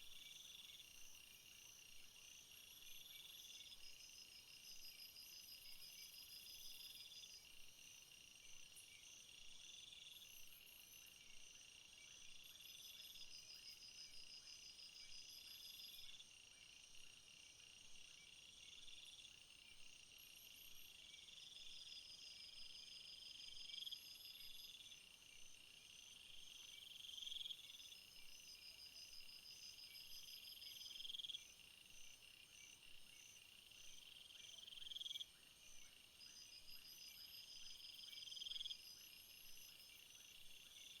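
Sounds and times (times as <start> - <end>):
crickets and insects chirping: 0.0 - 41.0.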